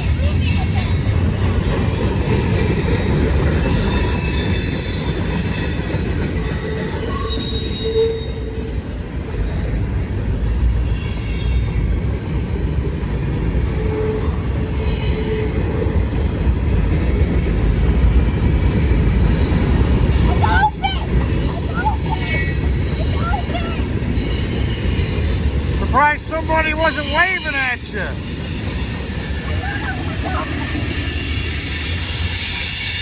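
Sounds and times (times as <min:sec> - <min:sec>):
high wheel squeals: 0:00.0 - 0:15.9, 0:17.1 - 0:33.0
train wheels rumbling on rail: 0:00.0 - 0:33.0.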